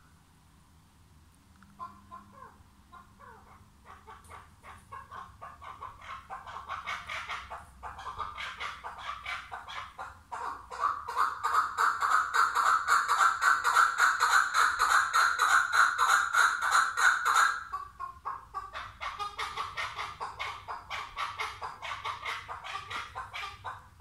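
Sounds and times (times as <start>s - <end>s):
partridge calling: 1.8s - 24.0s.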